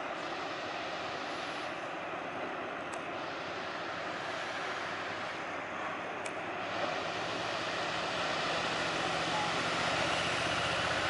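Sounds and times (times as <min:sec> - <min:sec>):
low motor hum: 0:00.0 - 0:11.0
ocean surf breaking: 0:00.0 - 0:11.0.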